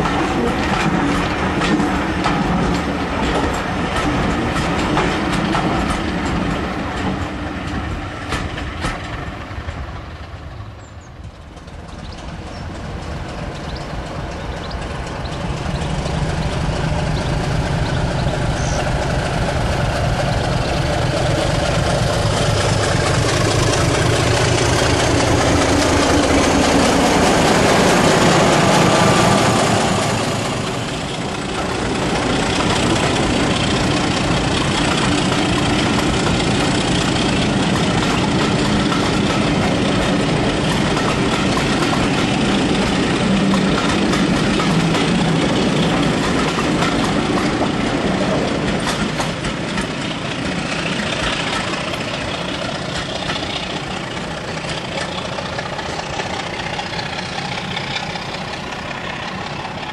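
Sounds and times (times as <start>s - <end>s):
diesel locomotive engine passing: 0.0s - 59.9s.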